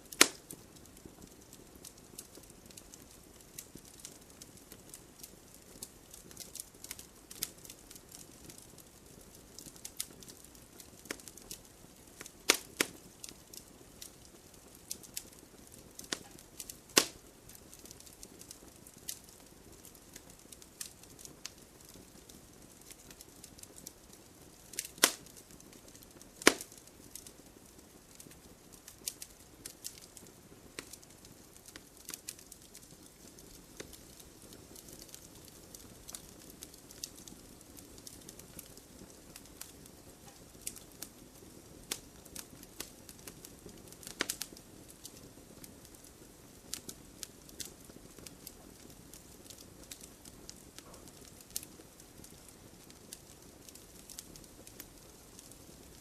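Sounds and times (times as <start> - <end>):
low hiss of flame: 0.0 - 56.0
wood fire crackling: 0.0 - 56.0.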